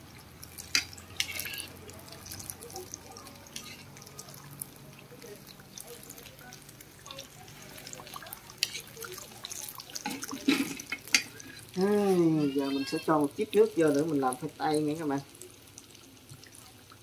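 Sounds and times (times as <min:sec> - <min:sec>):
batter sizzling in hot oil: 0:00.0 - 0:17.0.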